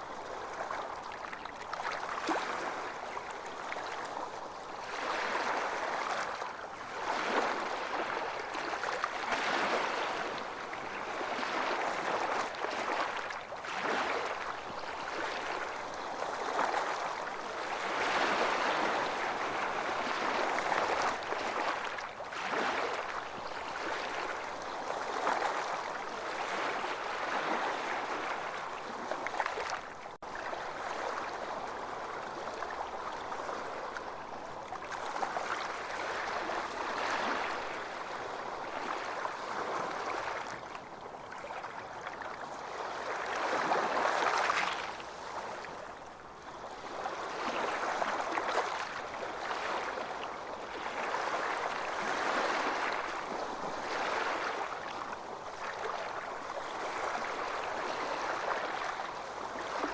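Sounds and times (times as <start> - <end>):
ocean waves on beach: 0.0 - 59.9.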